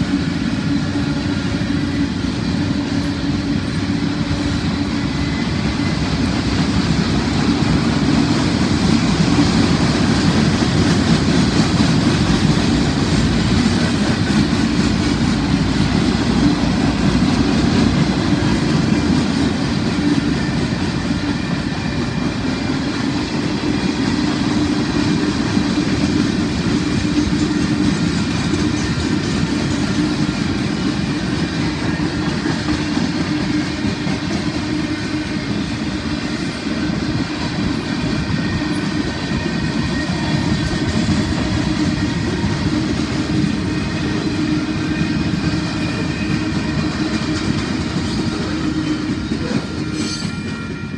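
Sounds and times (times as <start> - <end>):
freight train wheels on rails: 0.0 - 50.9.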